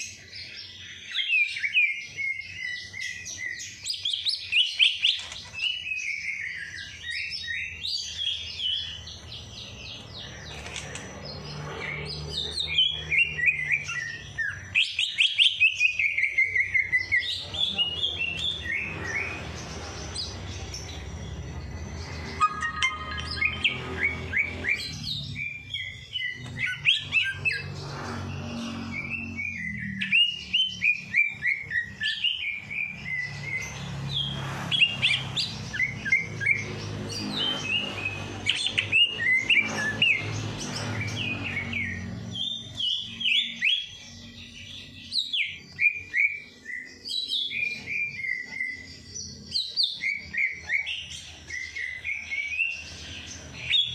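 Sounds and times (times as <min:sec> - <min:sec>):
songbirds chirping and twittering: 0:00.0 - 0:53.9.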